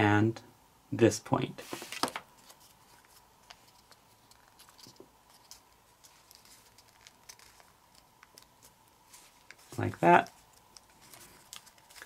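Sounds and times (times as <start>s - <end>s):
paper folding rustles: 1.6s - 12.0s.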